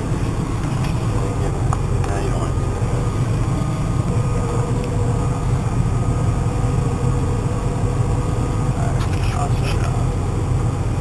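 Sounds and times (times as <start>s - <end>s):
faint steady whine: 0.0s - 11.0s
tractor engine droning: 0.0s - 11.0s.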